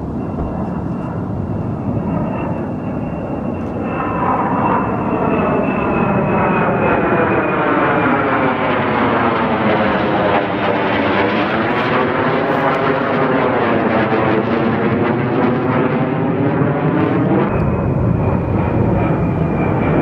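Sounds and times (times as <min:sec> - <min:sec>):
airplane flying overhead: 0:00.0 - 0:20.0.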